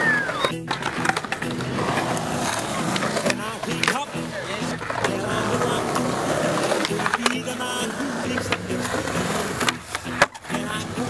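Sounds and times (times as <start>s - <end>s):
skateboard clacks: 0.0s - 11.0s
skateboard wheels rolling on concrete: 0.0s - 11.0s
song with vocals: 0.0s - 11.0s.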